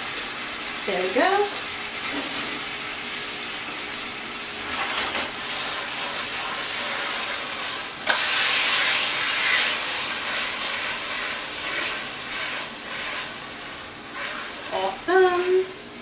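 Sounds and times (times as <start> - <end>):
chicken sizzling in skillet: 0.0 - 16.0.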